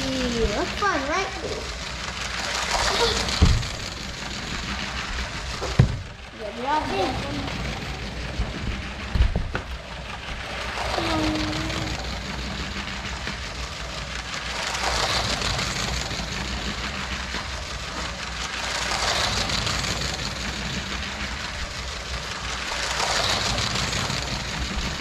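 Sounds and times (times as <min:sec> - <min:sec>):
toy train motor whirring: 0:00.0 - 0:25.0
wheels rattling over rails: 0:00.0 - 0:25.0.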